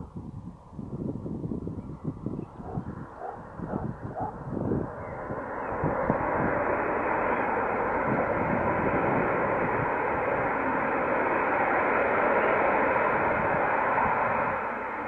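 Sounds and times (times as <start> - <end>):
aircraft engine noise: 0.0 - 15.0
wind buffeting microphone: 0.0 - 15.0.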